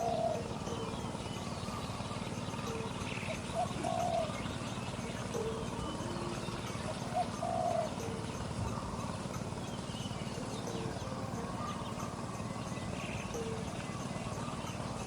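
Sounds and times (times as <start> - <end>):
doves cooing: 0.0 - 15.0
small birds chirping: 0.0 - 15.0
steady background hiss: 0.0 - 15.0.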